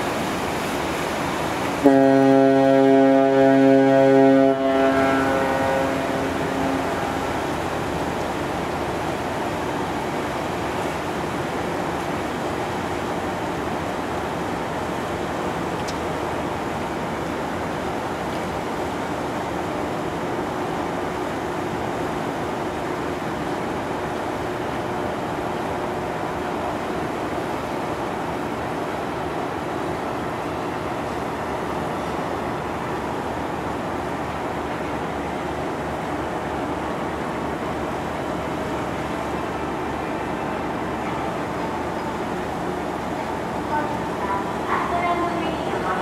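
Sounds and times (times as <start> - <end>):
ferry engine hum: 0.0 - 46.0
water rushing from propeller wash: 0.0 - 46.0.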